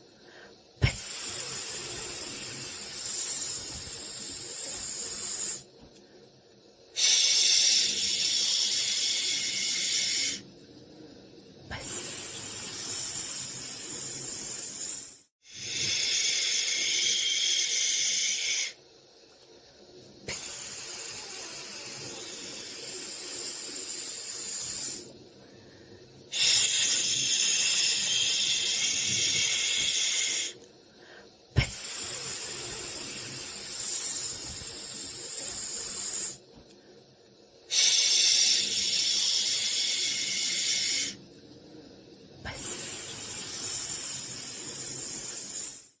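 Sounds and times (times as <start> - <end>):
hissing white noise: 0.0 - 46.0.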